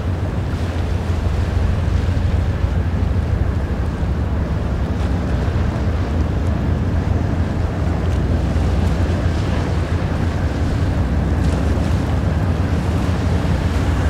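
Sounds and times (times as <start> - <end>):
ship engine low rumble: 0.0 - 14.0
water washing along hull: 0.0 - 14.0
wind buffeting microphone: 0.0 - 14.0.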